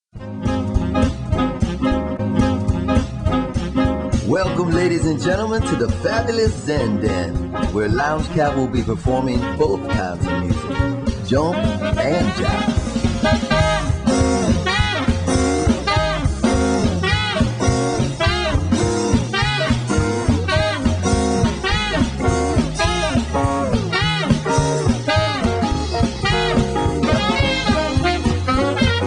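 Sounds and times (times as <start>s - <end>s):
band playing swing jazz: 0.2s - 29.0s.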